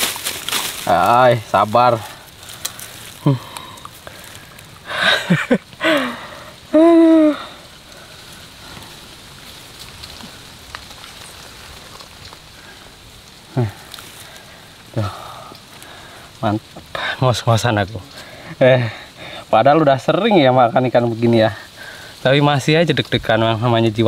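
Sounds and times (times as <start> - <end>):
faint hiss: 0.0 - 24.0.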